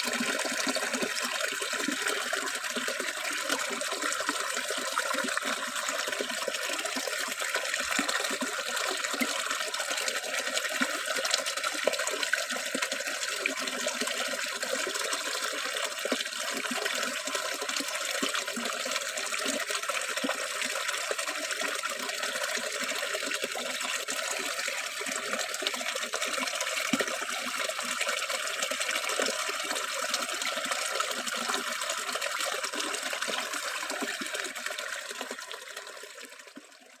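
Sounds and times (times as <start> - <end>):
flowing river water: 0.0 - 37.0.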